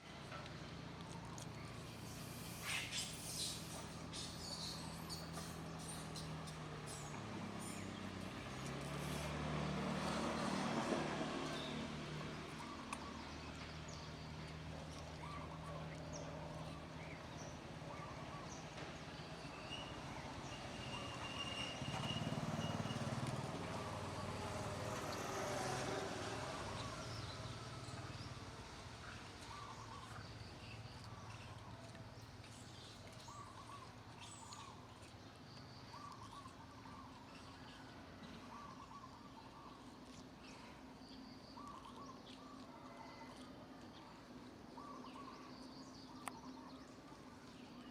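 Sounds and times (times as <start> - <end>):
low engine hum: 0.0 - 47.9
outdoor background noise: 0.0 - 47.9.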